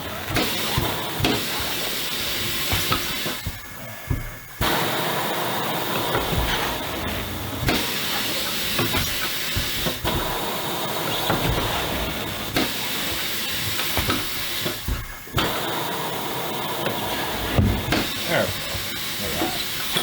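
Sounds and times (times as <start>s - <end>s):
compressed air hissing: 0.0s - 20.0s.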